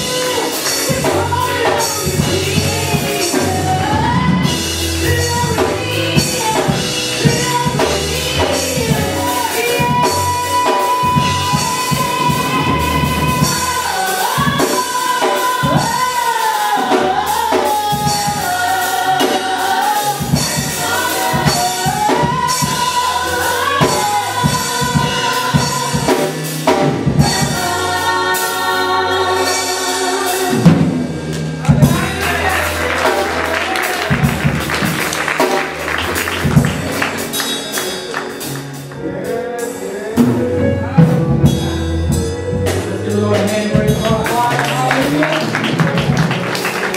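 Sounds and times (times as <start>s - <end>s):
drum kit: 0.0s - 46.9s
gospel singing voices: 0.0s - 46.9s.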